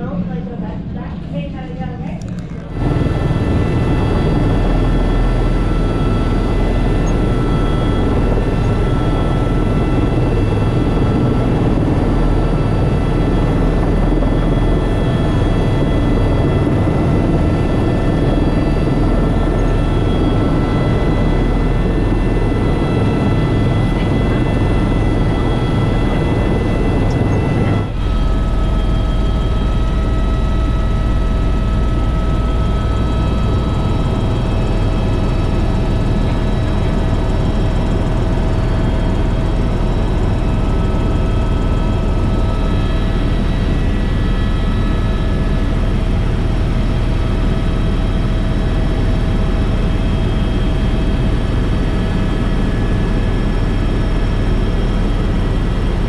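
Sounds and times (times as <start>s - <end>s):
helicopter flying: 0.0s - 56.0s.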